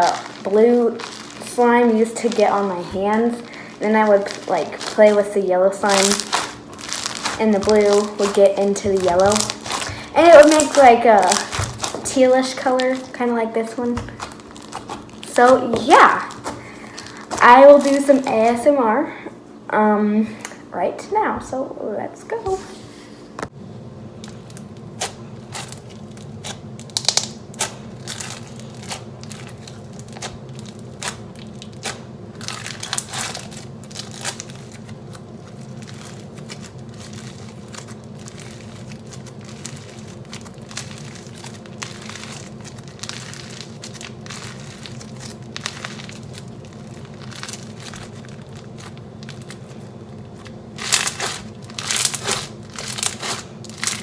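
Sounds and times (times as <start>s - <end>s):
foam bead slime crackling: 0.0s - 18.8s, 24.2s - 54.0s.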